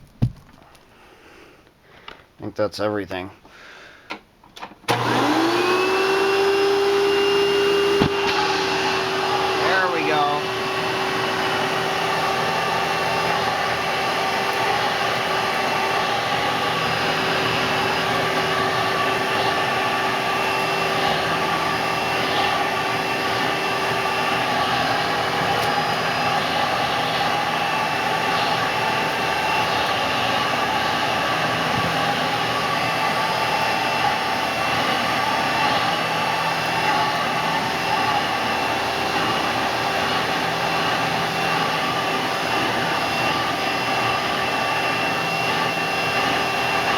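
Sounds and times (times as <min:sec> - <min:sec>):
upright vacuum cleaner running: 0:04.9 - 0:46.9.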